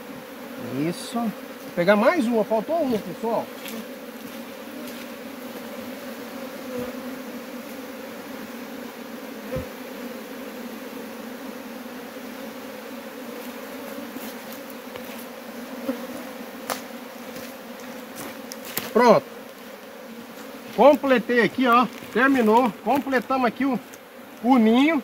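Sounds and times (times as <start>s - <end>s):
honeybees humming: 0.0s - 25.0s.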